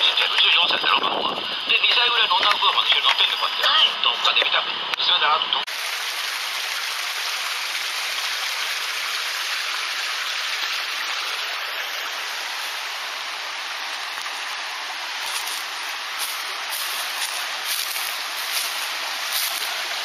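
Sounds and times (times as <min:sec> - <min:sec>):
water rushing in forest stream: 0:00.0 - 0:20.0.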